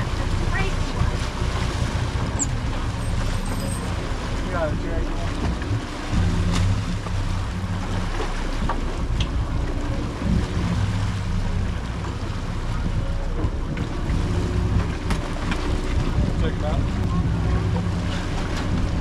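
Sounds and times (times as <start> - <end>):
boat engines humming: 0.0 - 19.0
water wash from wake: 0.0 - 19.0.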